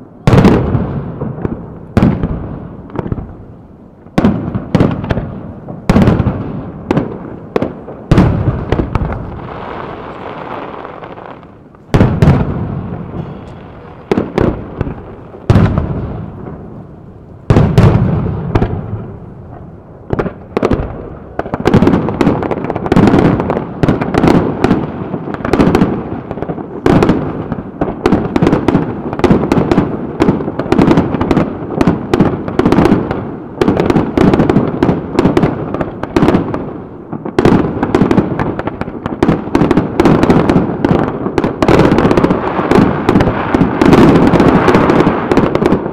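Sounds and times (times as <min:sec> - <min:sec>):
fireworks booming: 0:00.0 - 0:45.9.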